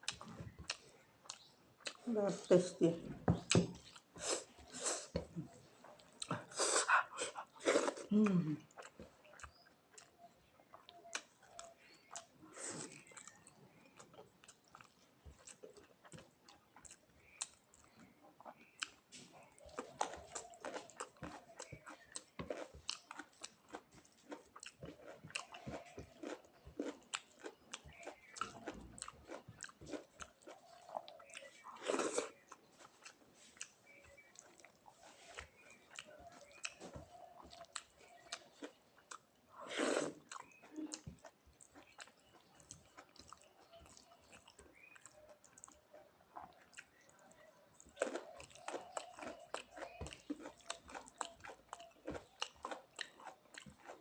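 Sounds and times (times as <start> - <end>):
mouth clicks and chewing: 0.0 - 2.1, 3.4 - 54.0.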